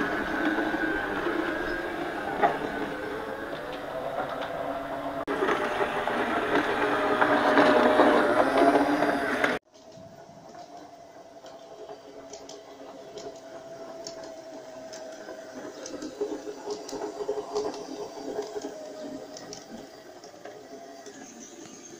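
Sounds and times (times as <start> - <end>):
model train motor whining: 0.0 - 21.9
wheels clicking over rail joints: 0.0 - 21.9.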